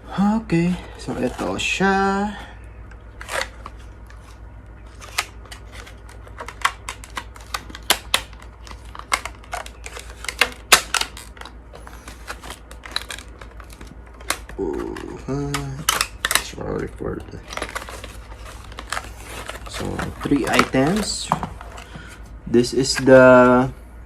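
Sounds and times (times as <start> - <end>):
packaging being unpacked: 0.0 - 23.7
low steady hum: 0.0 - 24.0.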